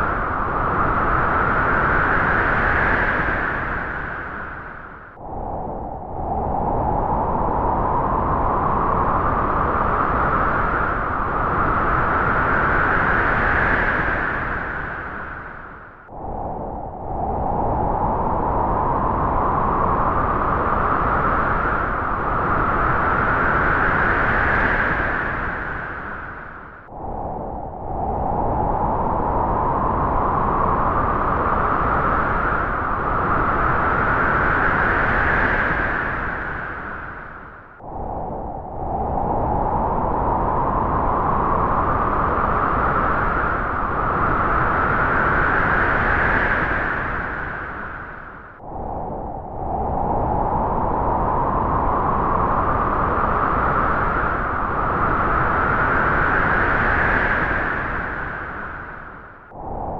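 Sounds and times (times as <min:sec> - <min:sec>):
wind gusting with whistling tone: 0:00.0 - 0:59.9.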